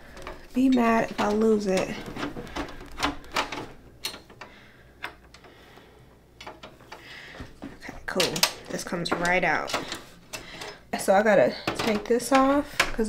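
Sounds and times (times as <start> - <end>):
computer parts clicking and knocking: 0.0 - 10.8, 11.6 - 13.0.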